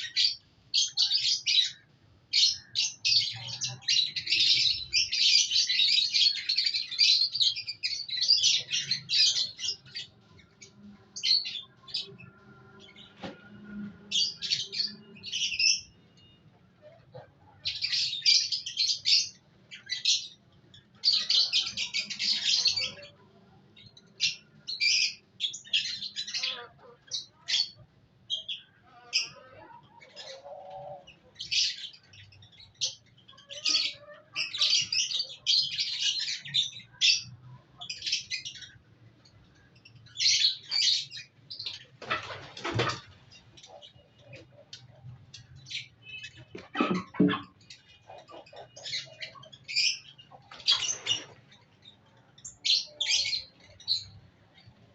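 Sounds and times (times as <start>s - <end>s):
lovebirds chattering: 0.0s - 13.2s, 14.1s - 54.9s.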